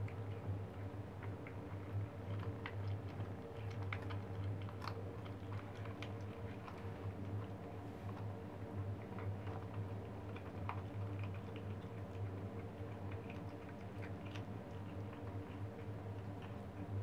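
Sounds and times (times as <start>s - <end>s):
kittens chewing and crunching: 0.0s - 17.0s
steady low hum: 0.0s - 17.0s.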